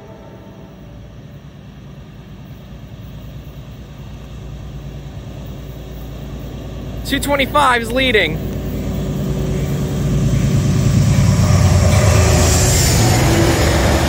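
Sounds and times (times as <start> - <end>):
diesel locomotive engine rumble: 0.0 - 14.0.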